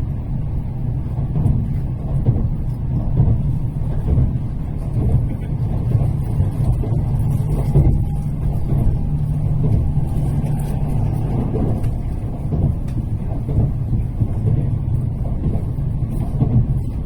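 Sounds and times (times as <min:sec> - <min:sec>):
train running low rumble: 0:00.0 - 0:17.0.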